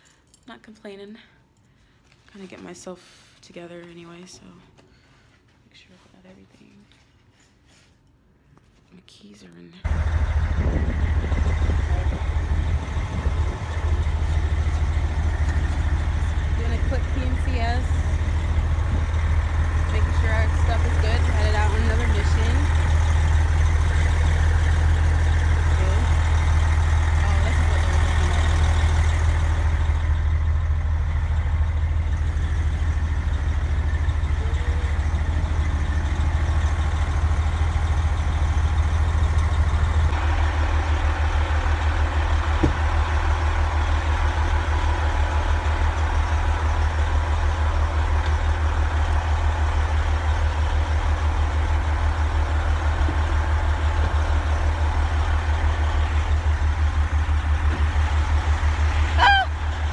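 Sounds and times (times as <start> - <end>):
diesel truck engine idling: 9.8 - 59.9.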